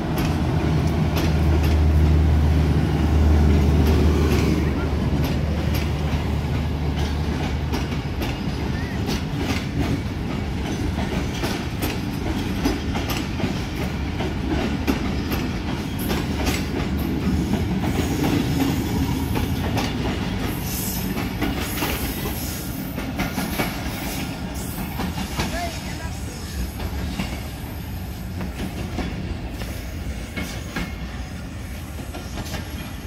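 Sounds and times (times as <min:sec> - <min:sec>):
train low rumble: 0:00.0 - 0:33.0
train wheels clicking over rail joints: 0:00.0 - 0:33.0.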